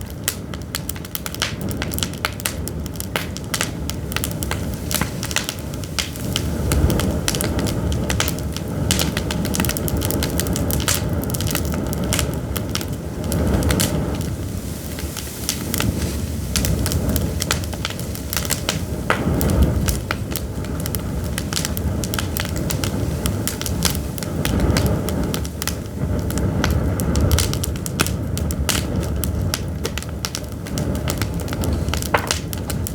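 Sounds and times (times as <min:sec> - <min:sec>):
firewood crackling and popping: 0:00.0 - 0:32.9
low fire rumble: 0:00.0 - 0:32.9.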